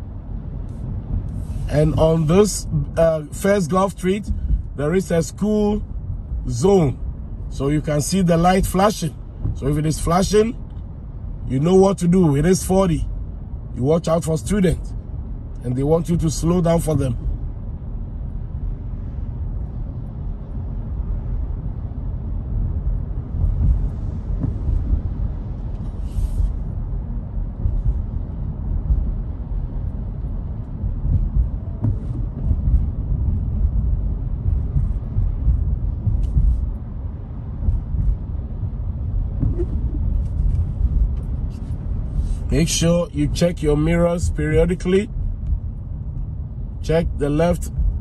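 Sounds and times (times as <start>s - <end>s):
car driving rumble: 0.0s - 48.0s.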